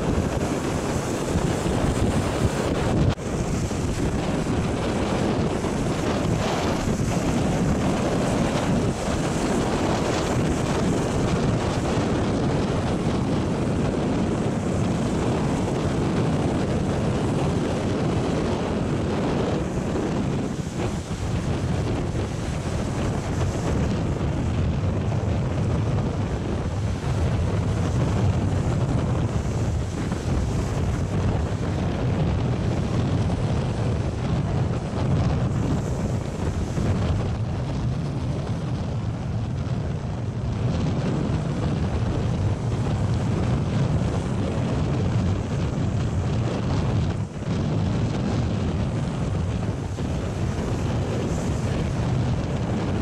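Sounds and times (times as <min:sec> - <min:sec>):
surf breaking over rocks: 0:00.0 - 0:53.0
wind buffeting the microphone: 0:00.0 - 0:53.0.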